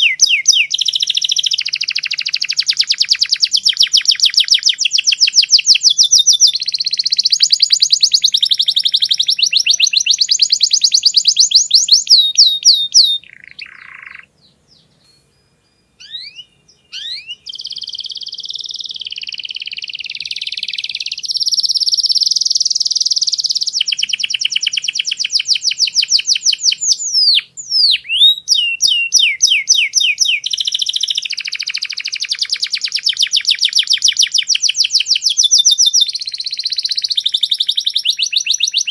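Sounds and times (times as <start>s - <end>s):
canary trilling song: 0.0s - 38.9s.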